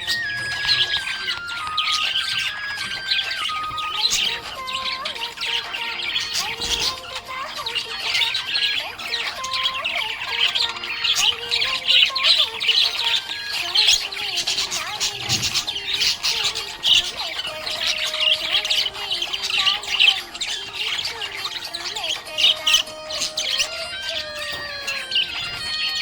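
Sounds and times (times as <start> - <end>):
budgerigar chattering: 0.0 - 26.0.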